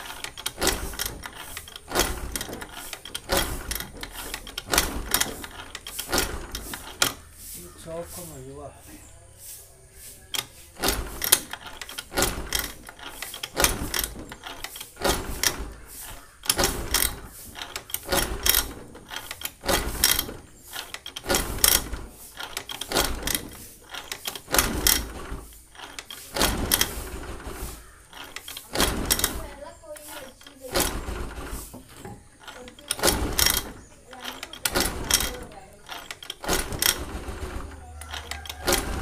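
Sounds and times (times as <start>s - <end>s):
scooter kick-start: 0.0s - 8.7s, 10.1s - 39.0s.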